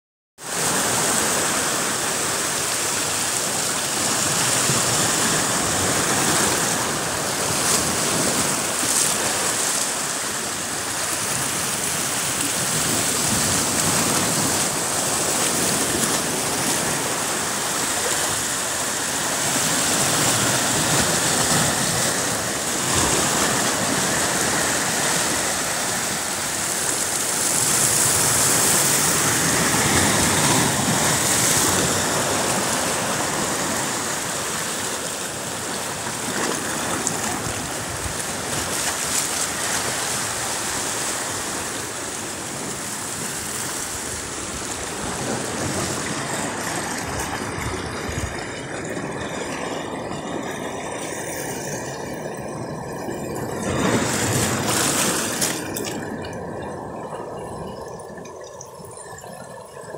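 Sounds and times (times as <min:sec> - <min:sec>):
waves splashing on rocks: 0:00.5 - 0:58.6.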